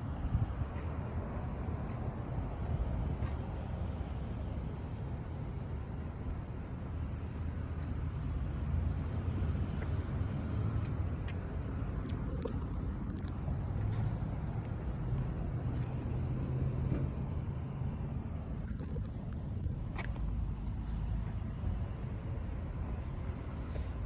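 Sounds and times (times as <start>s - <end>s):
engine rumbling steadily: 0.0s - 24.0s.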